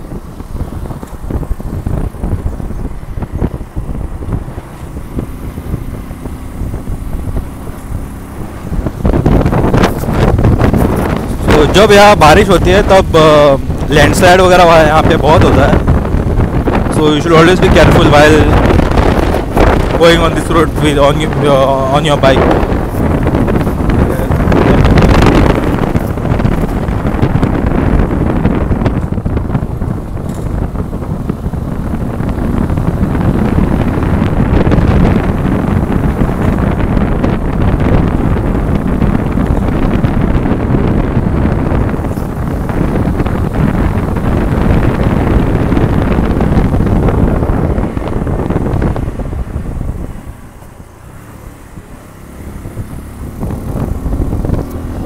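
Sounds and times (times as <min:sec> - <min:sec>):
motorcycle road and engine noise: 0:00.0 - 0:55.0
wind rushing over microphone: 0:00.0 - 0:55.0.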